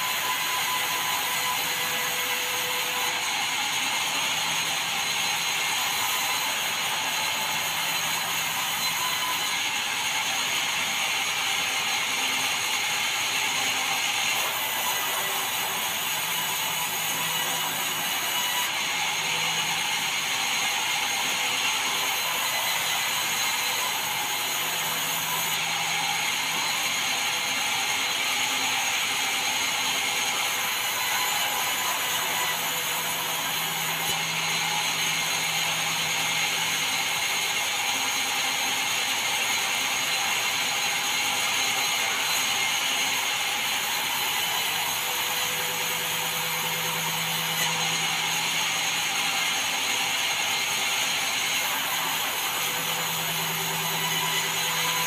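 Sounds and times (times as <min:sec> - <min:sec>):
band saw blade sawing boards: 0:00.0 - 0:55.0.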